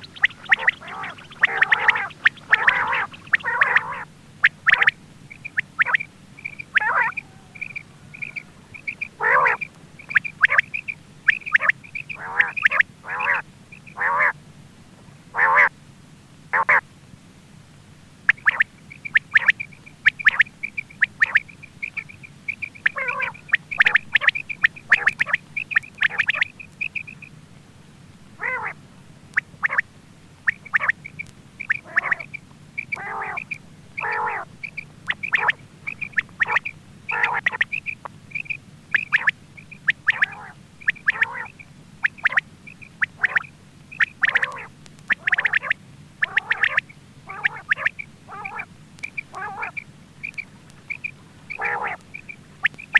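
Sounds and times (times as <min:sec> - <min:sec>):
quail calling: 0:00.0 - 0:14.4, 0:15.3 - 0:15.7, 0:16.5 - 0:16.8, 0:18.2 - 0:27.4, 0:28.4 - 0:52.9.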